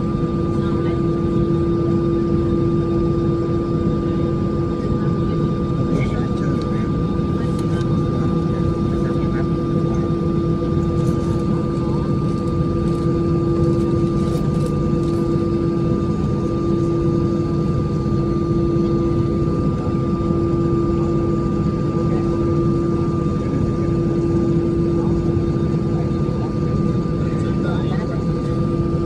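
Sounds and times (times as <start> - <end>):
airplane engines rumbling: 0.0 - 29.0.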